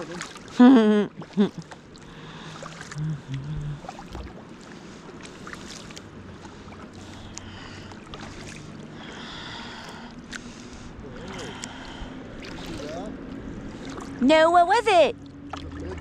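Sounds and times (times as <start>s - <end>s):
paddle strokes splashing: 0.0s - 16.0s
water lapping: 0.0s - 16.0s
steady low hum: 0.2s - 16.0s.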